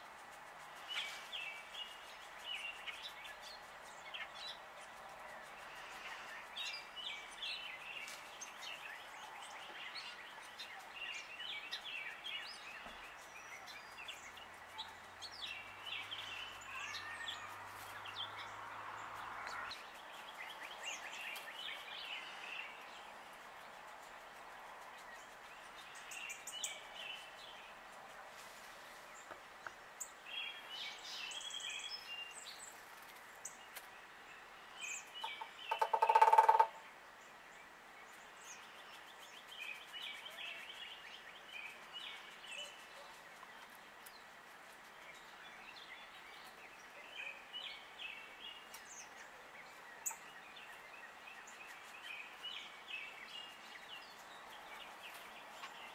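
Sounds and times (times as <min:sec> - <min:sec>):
birds chirping faintly: 0:00.0 - 0:55.9.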